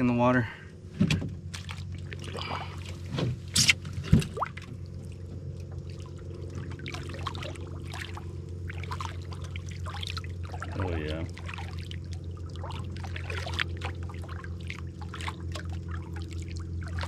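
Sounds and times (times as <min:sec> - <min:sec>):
steady low hum: 0:00.0 - 0:17.0
water lapping and dripping: 0:01.4 - 0:17.0
water splashing: 0:01.5 - 0:17.0.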